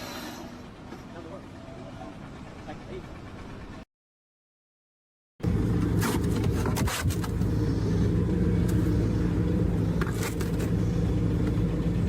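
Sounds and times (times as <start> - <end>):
engine running steadily: 0.0 - 3.8, 5.4 - 12.0.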